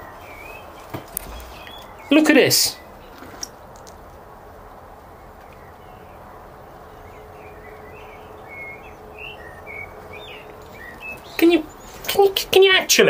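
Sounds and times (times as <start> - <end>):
bird chirping: 0.0 - 13.0
steady background hiss: 0.0 - 13.0.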